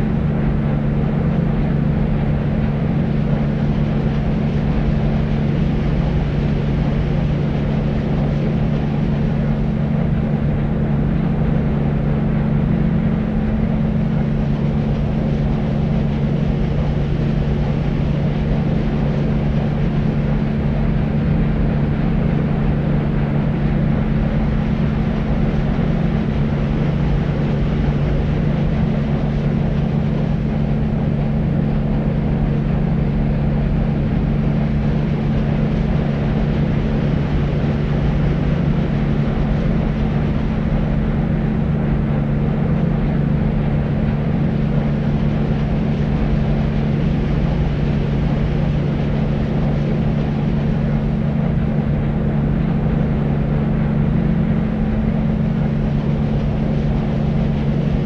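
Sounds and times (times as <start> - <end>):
deep white noise: 0.0 - 58.0.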